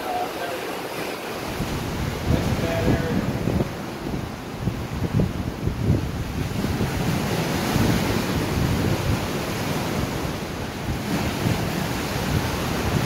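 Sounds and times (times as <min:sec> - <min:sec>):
wind buffeting microphone: 0:01.3 - 0:13.0.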